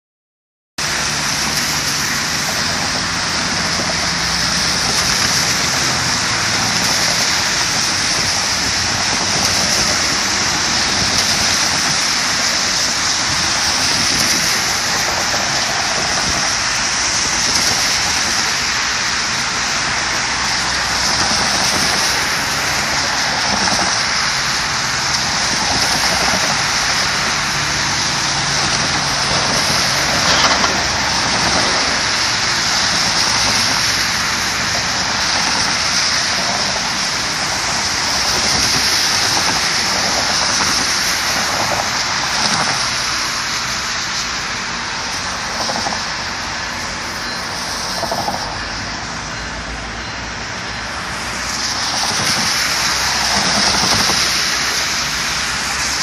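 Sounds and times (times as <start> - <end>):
tyres hissing on wet road: 0.8 - 56.0.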